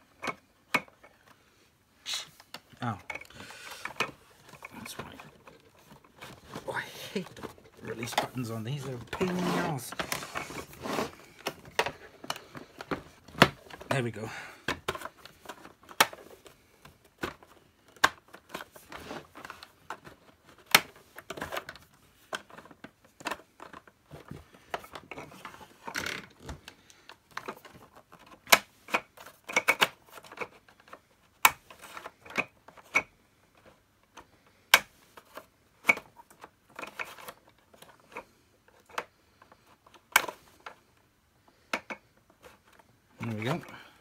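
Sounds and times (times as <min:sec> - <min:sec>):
plastic parts clicking and knocking: 0:00.0 - 0:01.4, 0:02.3 - 0:44.0.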